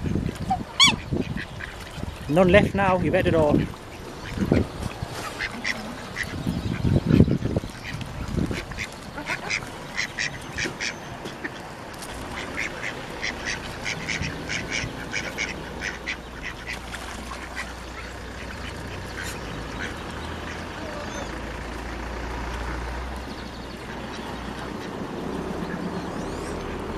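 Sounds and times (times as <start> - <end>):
ducks quacking: 0.0 - 26.9.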